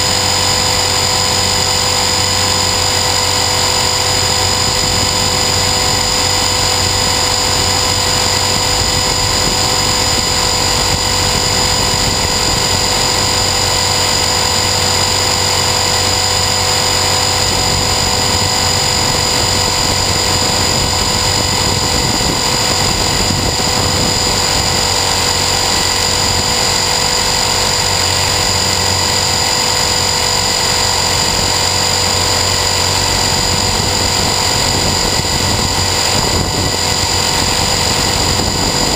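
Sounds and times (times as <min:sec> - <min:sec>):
motor and gears whining: 0:00.0 - 0:38.9
rotor noise rushing: 0:00.0 - 0:38.9.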